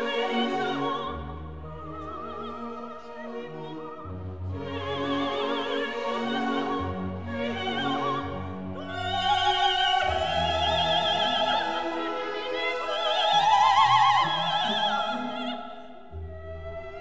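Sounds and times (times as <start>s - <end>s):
orchestral accompaniment: 0.0s - 17.0s.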